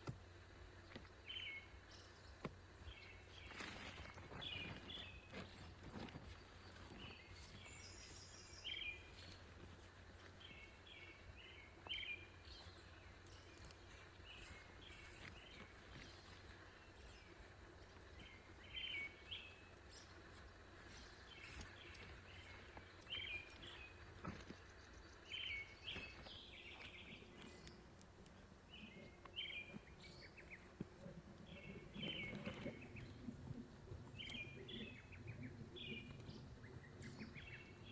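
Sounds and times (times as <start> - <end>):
faint low wind rumble: 0.0 - 37.9
small birds chirping: 0.0 - 37.9.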